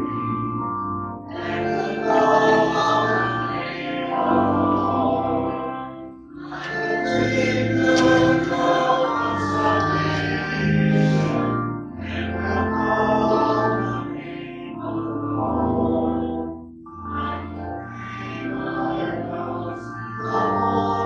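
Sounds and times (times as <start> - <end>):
choir singing sacred music: 0.0 - 21.0.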